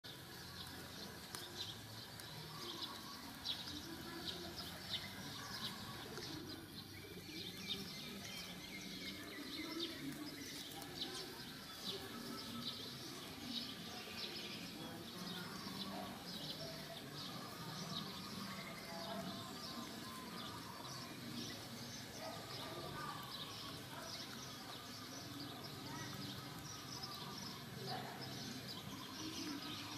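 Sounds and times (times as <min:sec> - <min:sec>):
low background murmur: 0:00.0 - 0:29.9
small birds chirping: 0:00.0 - 0:29.9.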